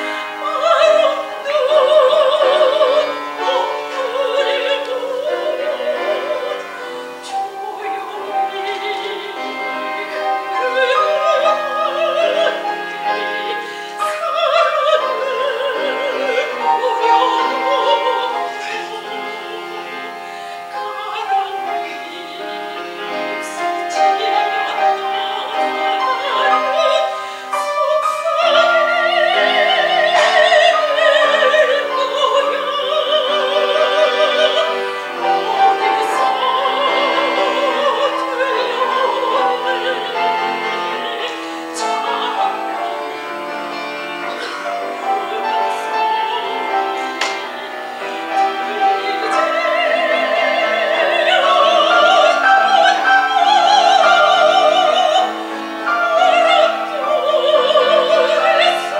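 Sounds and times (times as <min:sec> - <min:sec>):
grand piano accompaniment: 0:00.0 - 0:58.9
soprano singing operatic song: 0:00.0 - 0:58.9.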